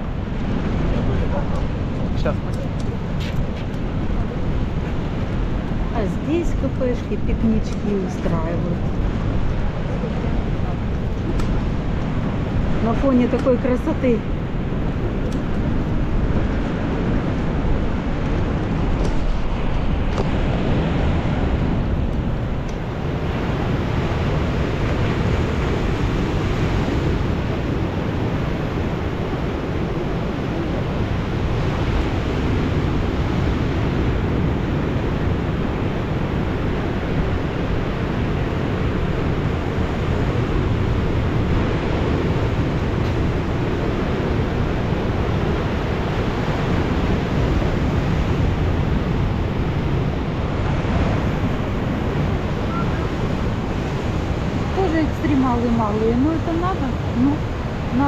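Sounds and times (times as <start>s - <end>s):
rough surf breaking over rocks: 0.0s - 58.0s
wind buffeting microphone: 0.0s - 58.0s.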